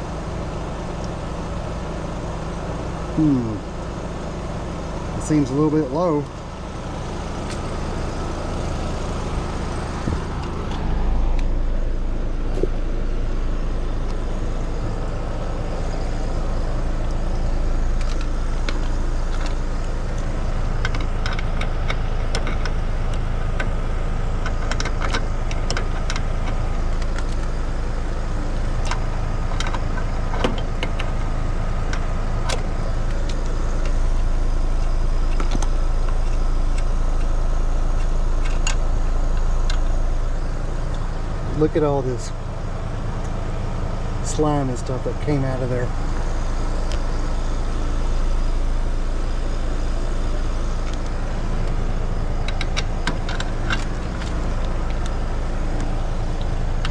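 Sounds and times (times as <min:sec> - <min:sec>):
air conditioner unit humming: 0:00.0 - 0:56.9.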